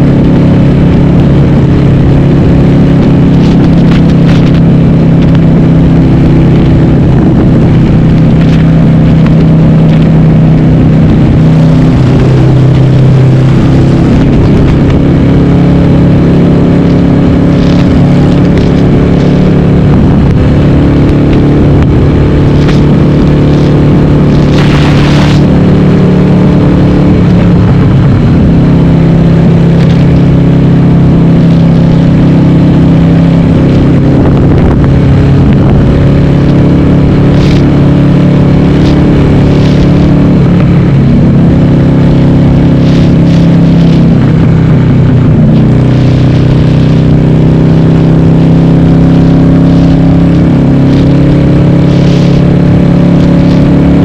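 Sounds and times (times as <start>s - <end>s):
motorcycle engine running loud: 0.0s - 54.0s.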